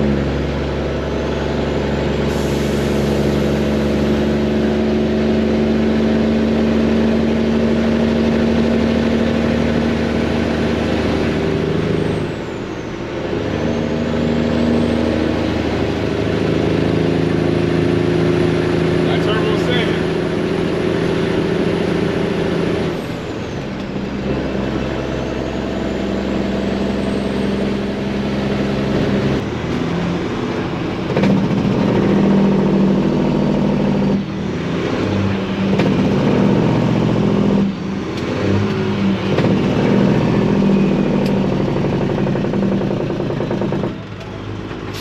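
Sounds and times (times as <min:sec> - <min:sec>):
diesel truck engine revving: 0:00.0 - 0:45.0.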